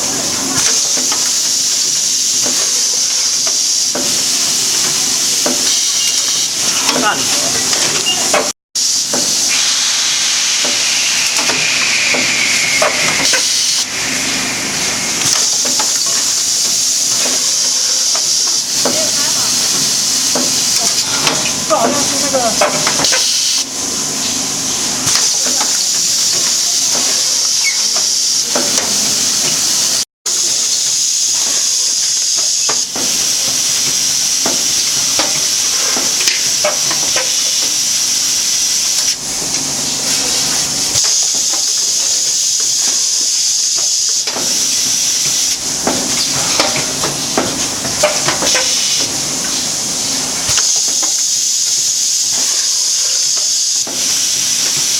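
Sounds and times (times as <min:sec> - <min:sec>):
packing machine air hiss: 0:00.0 - 0:54.9.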